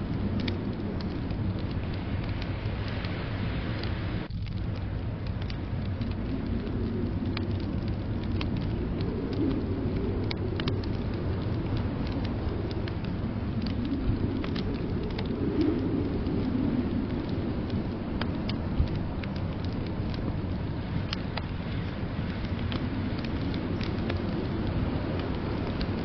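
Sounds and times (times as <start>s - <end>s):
blizzard wind rumbling: 0.0s - 26.0s
wood fire crackling and popping: 0.0s - 26.0s.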